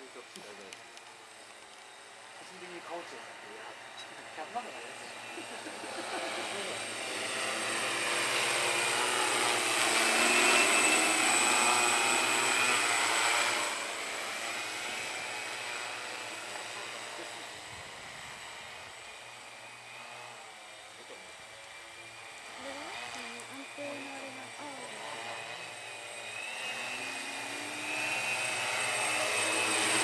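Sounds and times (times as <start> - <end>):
drone rotors whirring: 0.0 - 30.0
steady motor whine: 0.0 - 30.0.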